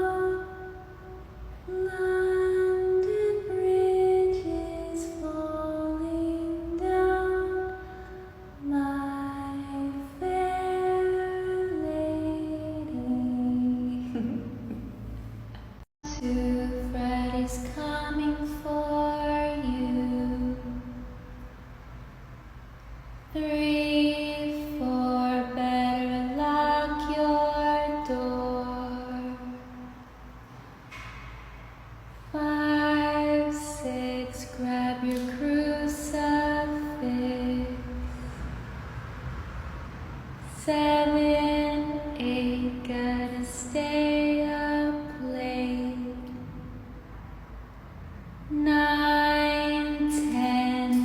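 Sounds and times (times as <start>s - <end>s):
woman singing wordless creepy tune: 0.0s - 15.0s, 16.0s - 21.5s, 23.3s - 30.1s, 32.1s - 38.6s, 40.4s - 46.9s, 48.4s - 51.0s.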